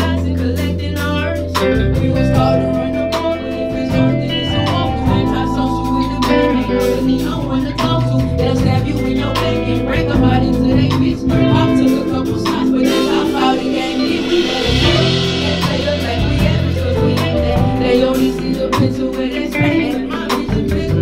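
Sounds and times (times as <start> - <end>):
live band playing slow song: 0.0 - 21.0
woman singing: 0.0 - 21.0.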